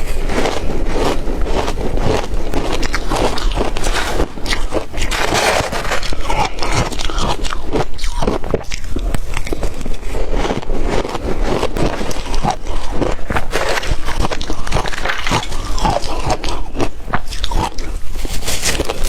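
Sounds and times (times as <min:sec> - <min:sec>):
crunching ice: 0:00.0 - 0:19.0.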